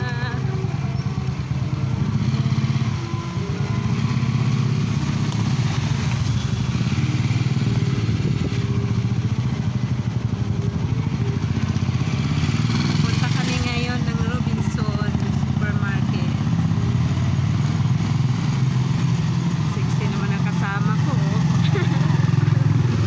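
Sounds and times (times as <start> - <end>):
street traffic: 0.0 - 23.0
vehicle engine running: 0.0 - 23.0.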